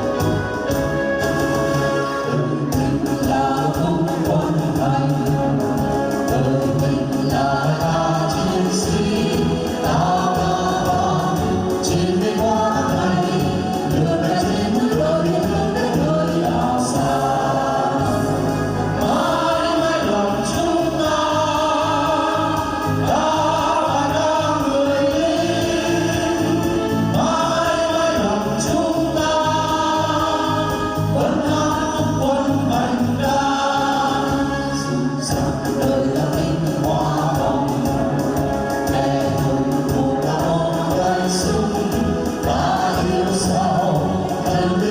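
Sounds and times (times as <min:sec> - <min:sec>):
accompaniment with bass beat: 0:00.0 - 0:44.9
group of voices singing: 0:00.0 - 0:44.9.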